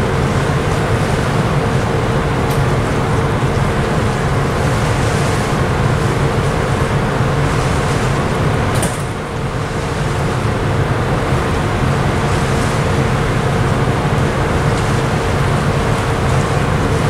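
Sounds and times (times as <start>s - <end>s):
propeller wash churning water: 0.0s - 17.0s
ship engine rumble: 0.0s - 17.0s.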